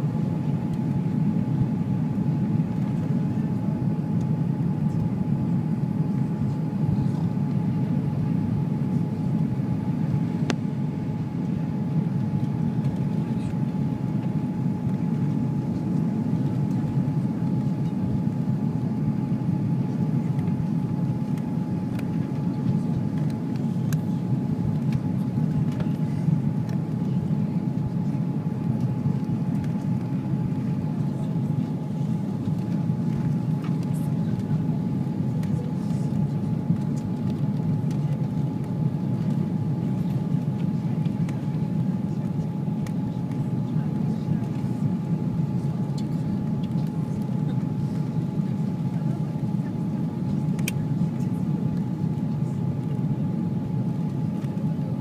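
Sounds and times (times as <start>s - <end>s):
airplane cabin roar: 0.0s - 55.0s
steady high hum: 0.0s - 55.0s.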